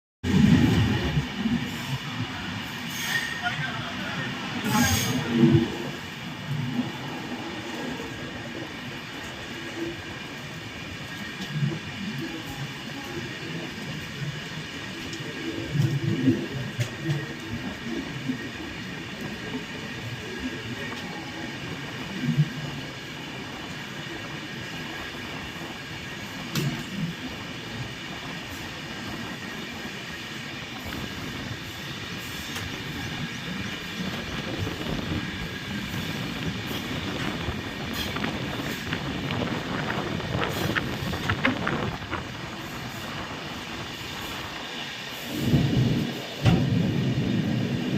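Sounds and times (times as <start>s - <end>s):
train rumbling on tracks: 0.2s - 47.9s.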